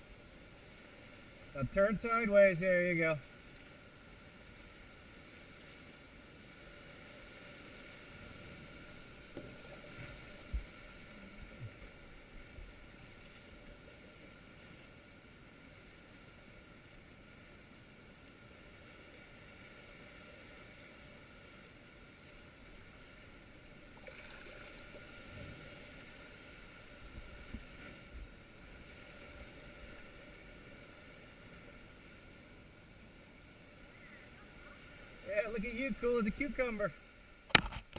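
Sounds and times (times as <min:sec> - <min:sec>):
faint water lapping: 0:00.0 - 0:37.9.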